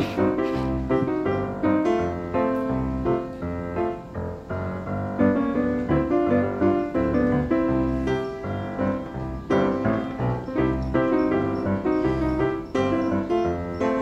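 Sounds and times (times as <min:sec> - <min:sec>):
upbeat solo piano music: 0:00.0 - 0:14.0.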